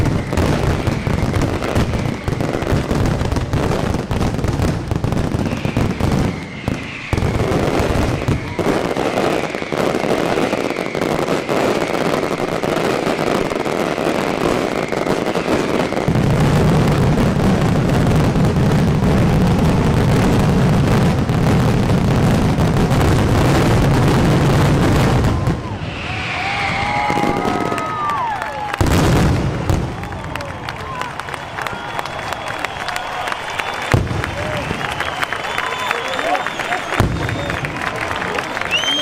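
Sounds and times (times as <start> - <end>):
fireworks barrage rumble: 0.0 - 39.0
fireworks crackling and bangs: 0.0 - 39.0
fireworks whistles: 0.0 - 39.0.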